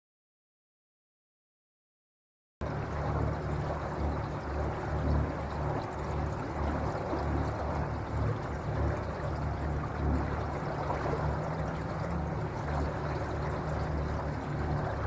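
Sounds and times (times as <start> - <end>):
steady low rumble: 2.6 - 15.0
water rushing along boat hull: 2.6 - 15.0.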